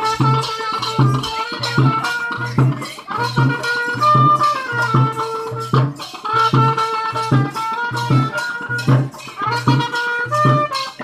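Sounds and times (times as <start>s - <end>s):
steady drum beat: 0.0s - 11.0s
wind instrument melody: 0.0s - 11.0s.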